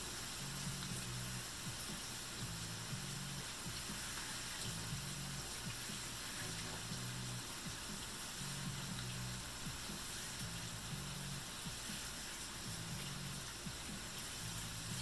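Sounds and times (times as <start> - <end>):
bacon sizzling in a pan: 0.0 - 15.0
low background music: 0.0 - 15.0.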